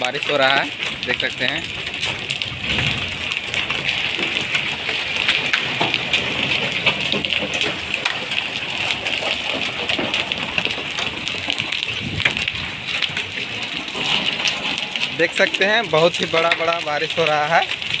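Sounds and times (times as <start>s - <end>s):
hailstones ticking on ground: 0.0s - 18.0s
rain hissing: 0.0s - 18.0s.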